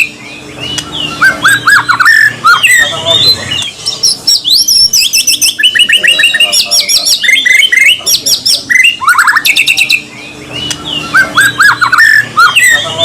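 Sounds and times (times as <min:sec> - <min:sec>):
bird singing shrill song: 0:00.0 - 0:13.0.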